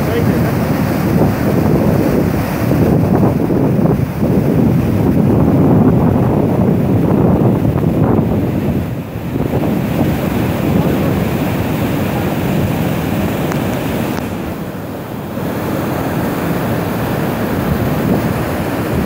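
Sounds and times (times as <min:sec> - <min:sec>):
river whitewater roaring: 0:00.0 - 0:19.0.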